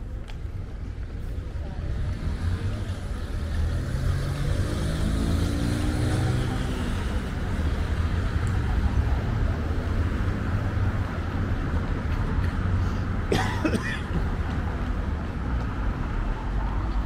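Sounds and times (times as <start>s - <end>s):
urban traffic rumble: 0.0s - 17.0s.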